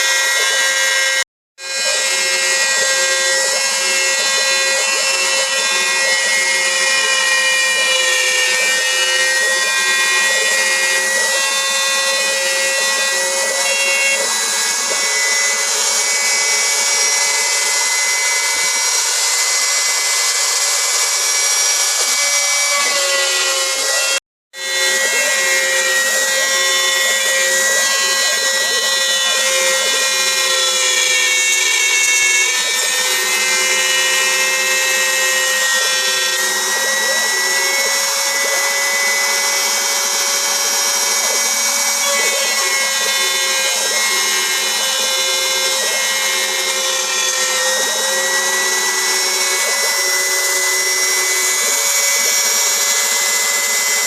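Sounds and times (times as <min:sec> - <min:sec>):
router spindle high whine: 0:00.0 - 0:54.0.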